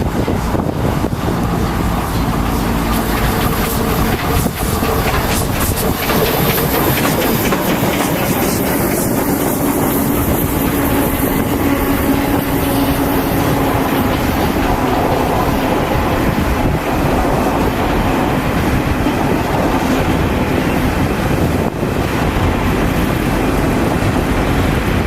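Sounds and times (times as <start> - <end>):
steam train running past: 0.0 - 25.0
wheels clicking over rail joints: 0.0 - 25.0
wind buffeting microphone: 0.0 - 25.0.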